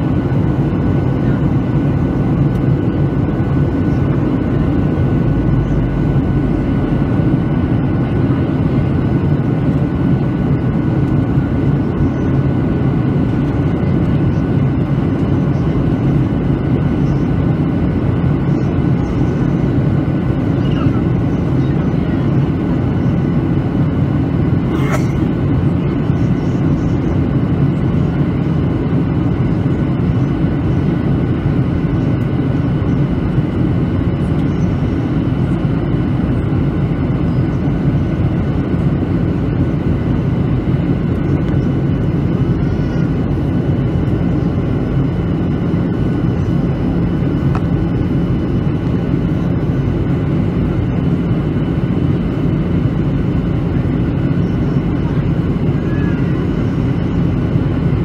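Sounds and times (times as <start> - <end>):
airplane cabin roar: 0.0 - 58.0.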